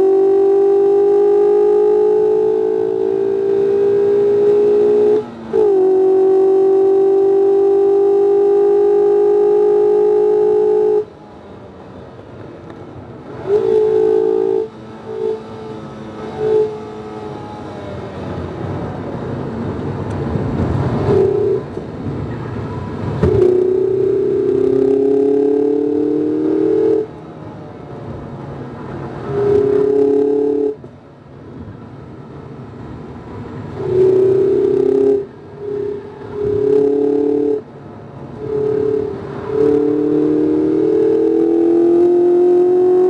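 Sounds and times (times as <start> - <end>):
car engine revving: 0.0 - 11.2, 12.6 - 22.3, 23.0 - 30.9, 32.8 - 43.0.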